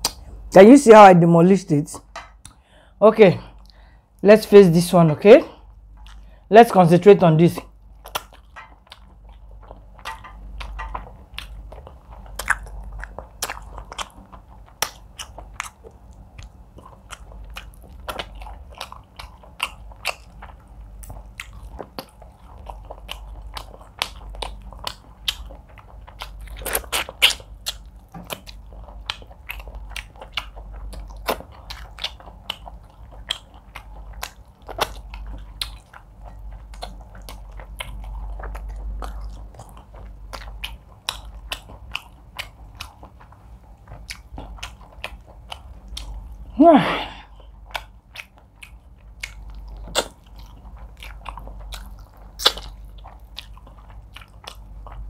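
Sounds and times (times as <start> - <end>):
wet mouth clicks and smacks: 0.0 - 0.3, 2.3 - 2.6, 8.0 - 46.2, 47.7 - 55.0
person chewing food: 0.0 - 0.5, 2.0 - 6.6, 7.5 - 55.0.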